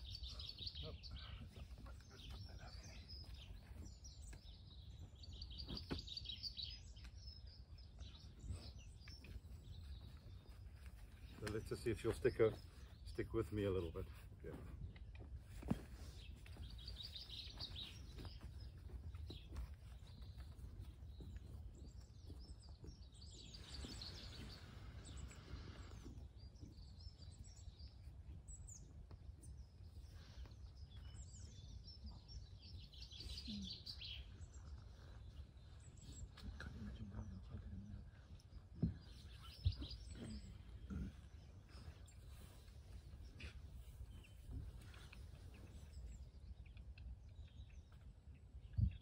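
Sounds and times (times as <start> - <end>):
small birds chirping and singing: 0.0 - 49.0.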